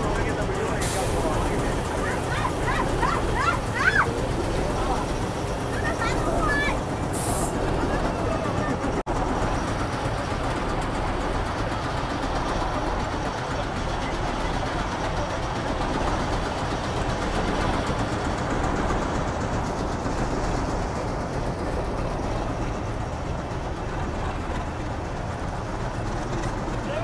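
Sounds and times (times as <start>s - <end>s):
steam train rushing noise: 0.0s - 27.0s.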